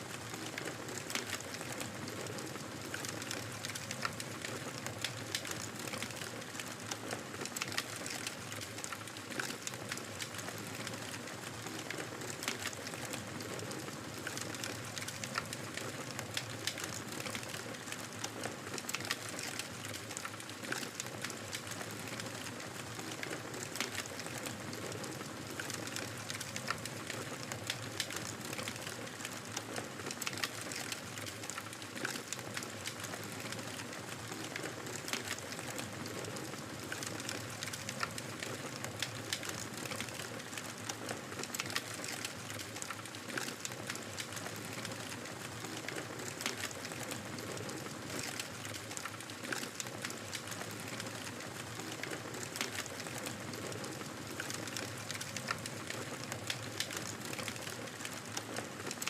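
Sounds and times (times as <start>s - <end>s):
fire crackling and popping: 0.2s - 59.0s.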